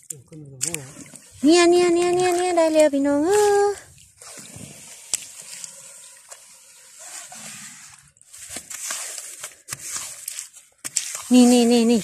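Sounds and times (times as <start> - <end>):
rake crunching wet sand: 0.6 - 12.0.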